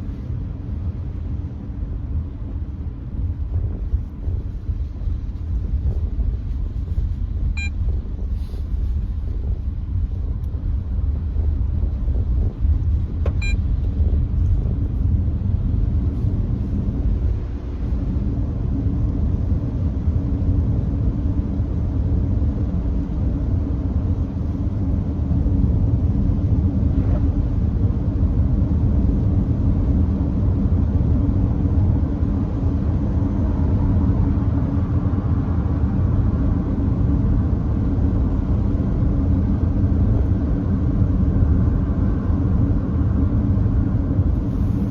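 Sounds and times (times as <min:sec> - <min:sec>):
road and tyre noise: 0:00.0 - 0:44.9.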